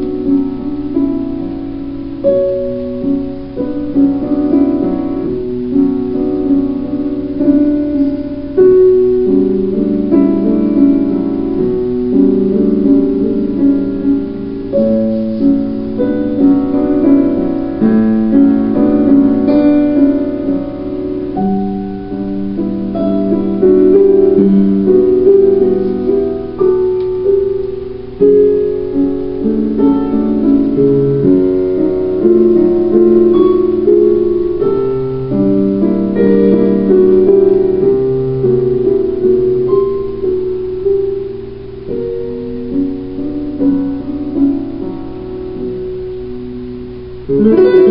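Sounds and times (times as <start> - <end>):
piano piece: 0.0 - 47.9.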